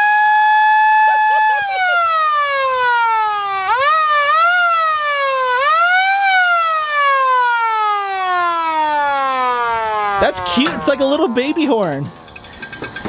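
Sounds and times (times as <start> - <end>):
fire truck siren: 0.0 - 12.4.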